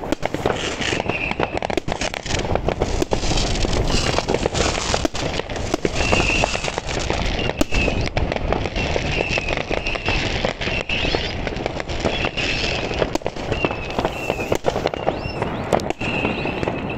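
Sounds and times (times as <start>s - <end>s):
fireworks bangs and firecrackers: 0.0s - 16.9s
high firework whistle: 0.4s - 16.9s.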